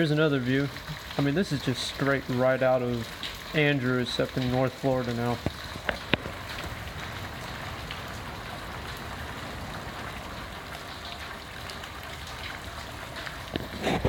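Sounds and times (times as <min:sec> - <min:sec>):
raindrop ticks: 0:00.0 - 0:13.8
heavy rain hissing: 0:00.0 - 0:14.0.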